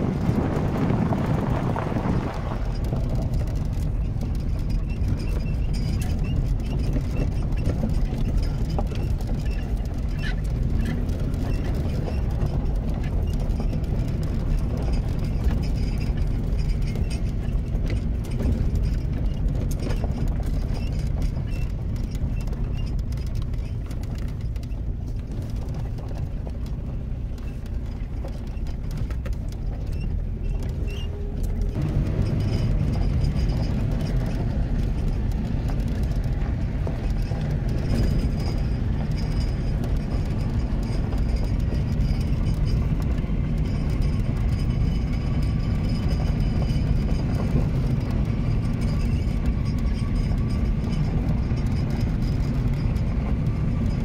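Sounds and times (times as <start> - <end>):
car rumbling on dirt road: 0.0 - 54.0.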